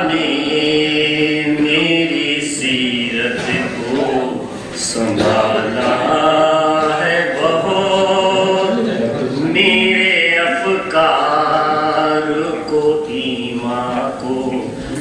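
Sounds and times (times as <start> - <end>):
man chanting verse: 0.0 - 15.0.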